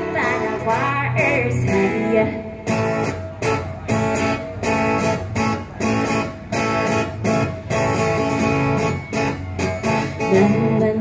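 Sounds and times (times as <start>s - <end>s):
pop music with strummed guitar: 0.0s - 11.0s.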